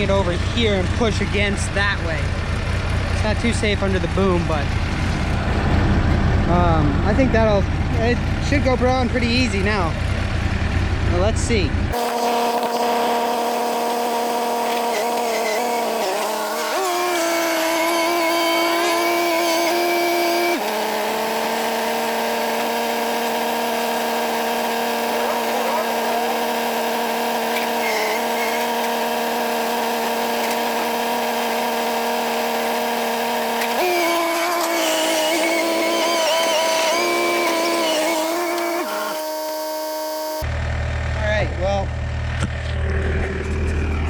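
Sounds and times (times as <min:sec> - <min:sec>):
diesel engine at high revs: 0:00.0 - 0:44.0.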